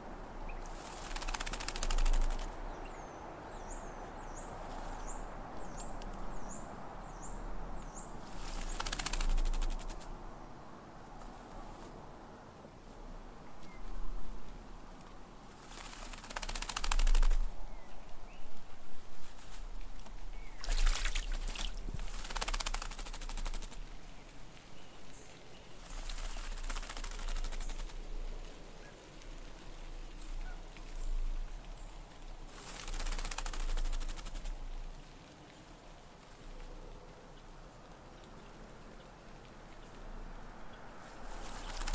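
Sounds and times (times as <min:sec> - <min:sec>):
bird wings fluttering and splashing: 0:00.4 - 0:03.6, 0:07.8 - 0:10.3, 0:13.6 - 0:41.9.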